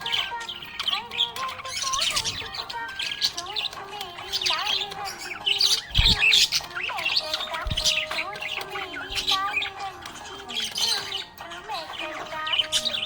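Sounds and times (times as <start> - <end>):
budgerigar warbling and chirping: 0.0 - 13.0.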